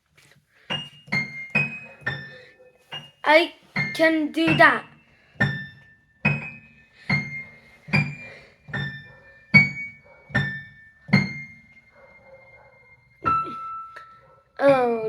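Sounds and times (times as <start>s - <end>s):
high piano notes: 0.7s - 15.0s.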